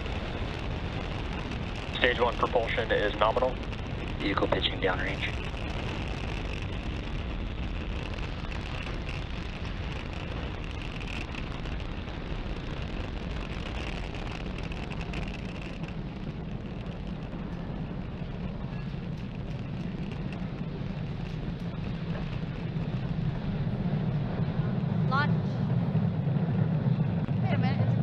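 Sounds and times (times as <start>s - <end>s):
rocket engines rumbling: 0.0s - 28.0s.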